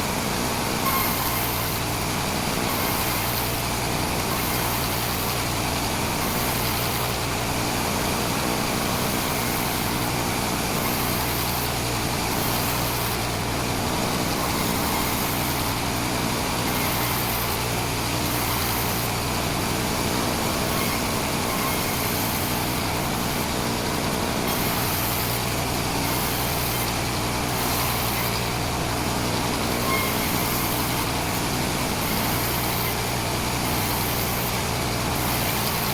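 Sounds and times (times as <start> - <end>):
sawmill machinery running: 0.0 - 35.9.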